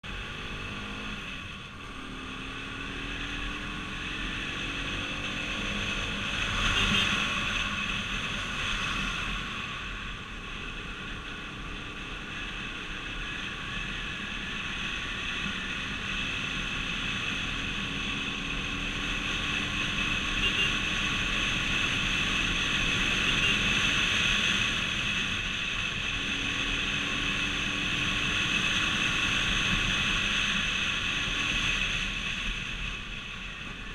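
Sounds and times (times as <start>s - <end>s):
road noise: 0.0s - 33.9s
vehicle engine: 0.0s - 33.9s.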